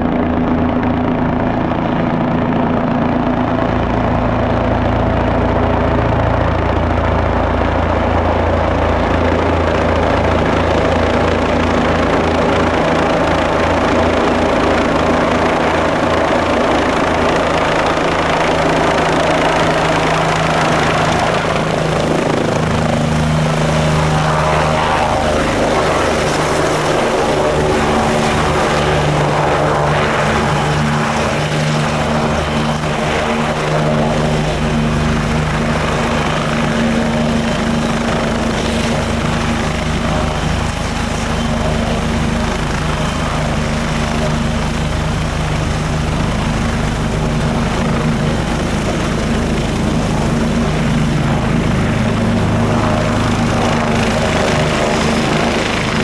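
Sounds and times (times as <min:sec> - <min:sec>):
helicopter engine tone: 0:00.0 - 0:56.0
helicopter rotor beat: 0:00.0 - 0:56.0
high turbine whine: 0:00.0 - 0:56.0.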